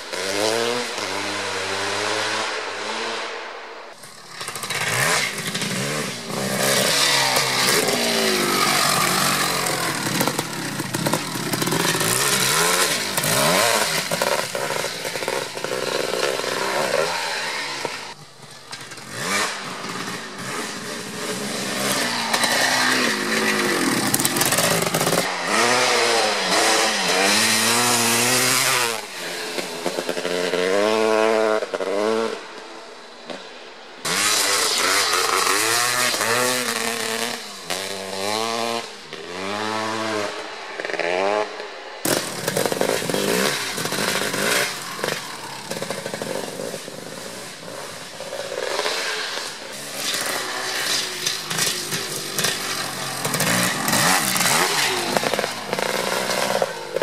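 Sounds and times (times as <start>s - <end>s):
two-stroke motorcycle engine revving: 0.0s - 33.4s, 34.0s - 57.0s.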